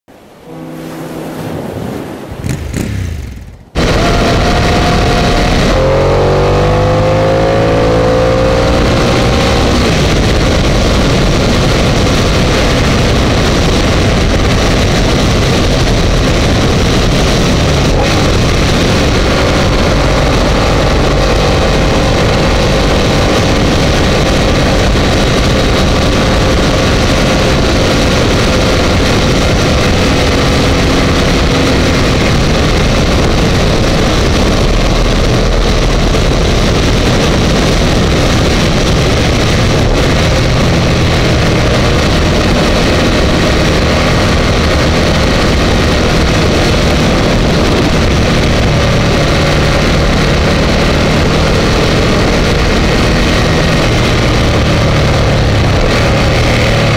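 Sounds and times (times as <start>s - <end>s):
wind rush on microphone: 0.1s - 56.9s
motorcycle engine running: 2.4s - 56.9s.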